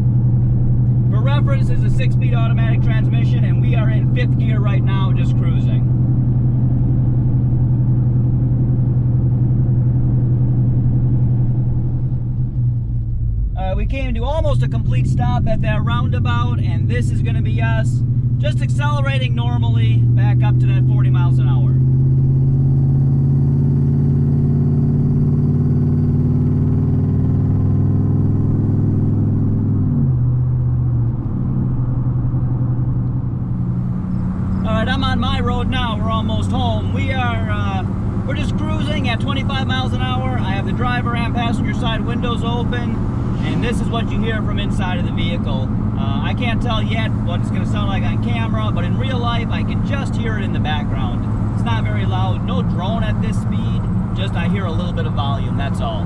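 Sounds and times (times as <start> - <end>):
engine and exhaust drone: 0.0 - 56.0
road rumble: 0.0 - 56.0.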